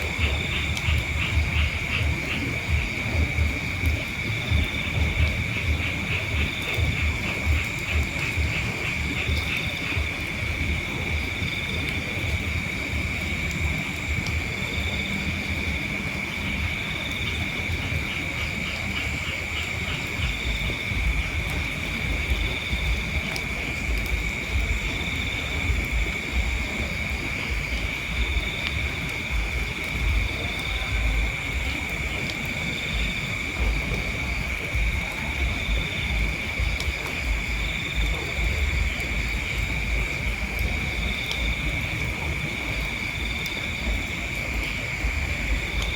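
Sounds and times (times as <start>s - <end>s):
crickets trilling: 0.0s - 45.9s
wind rumble on microphone: 0.0s - 45.9s.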